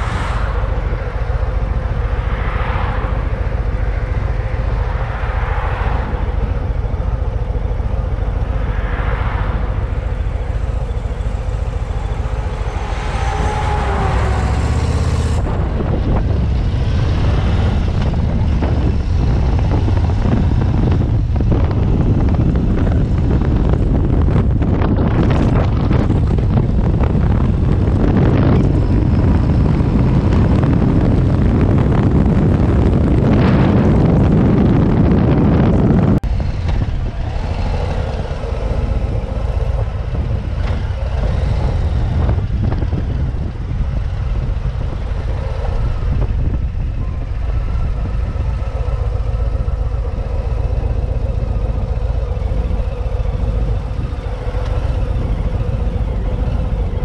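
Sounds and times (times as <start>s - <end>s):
motorcycle engine running: 0.0s - 57.0s
wind on microphone: 0.0s - 57.0s.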